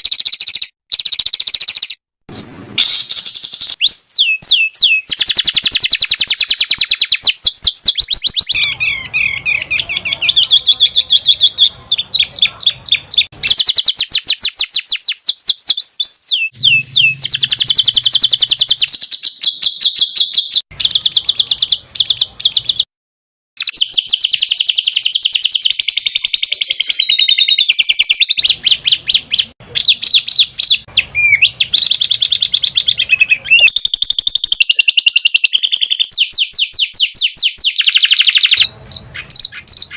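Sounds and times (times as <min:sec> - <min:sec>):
songbird trilling and chattering: 0:00.0 - 0:02.0, 0:02.8 - 0:22.9, 0:23.6 - 0:39.9.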